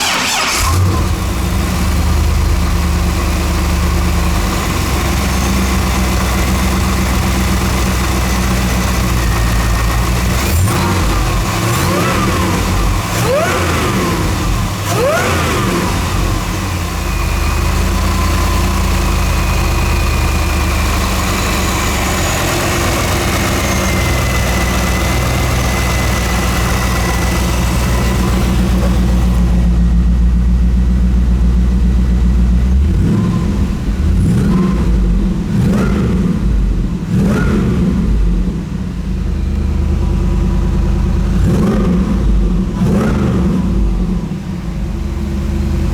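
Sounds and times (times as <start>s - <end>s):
supercharged car engine revving: 0.0s - 29.8s, 32.6s - 39.0s, 41.0s - 44.6s
supercharger whine: 0.0s - 45.9s.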